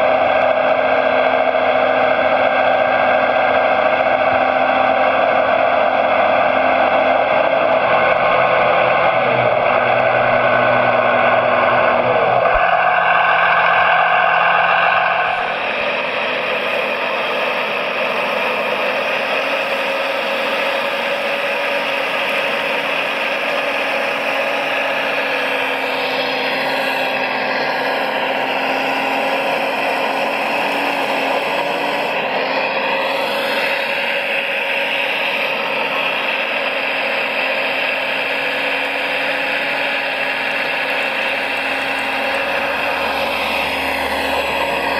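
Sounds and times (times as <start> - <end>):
electric motors whirring: 7.2 - 44.9.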